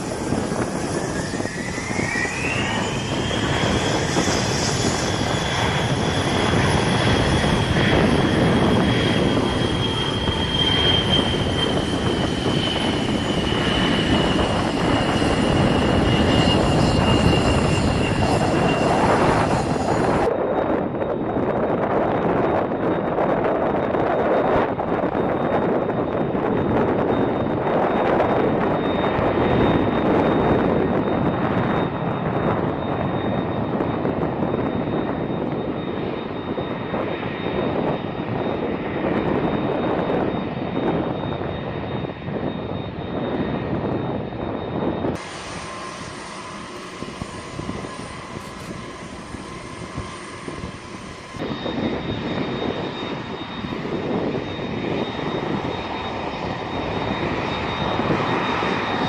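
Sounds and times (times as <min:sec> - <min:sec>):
jet engines roaring with high whine: 0:00.0 - 0:59.0.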